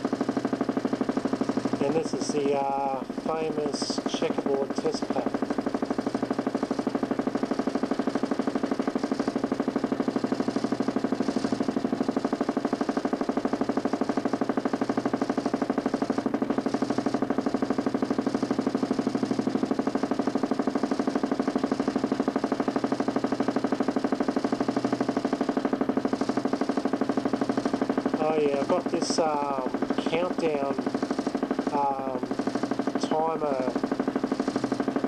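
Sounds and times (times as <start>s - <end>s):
motor humming with fast pulsing: 0.0s - 35.0s.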